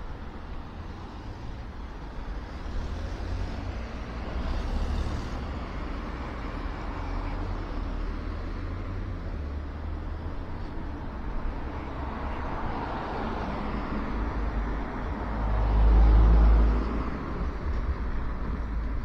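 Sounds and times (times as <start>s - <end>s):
cars passing: 0.0s - 19.0s
low traffic rumble: 0.0s - 19.0s.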